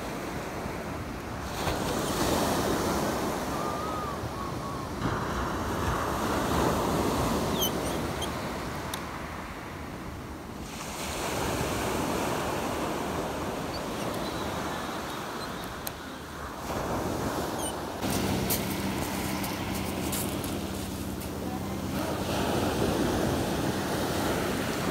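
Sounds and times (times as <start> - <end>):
sea surf on pebble beach: 0.0 - 24.9.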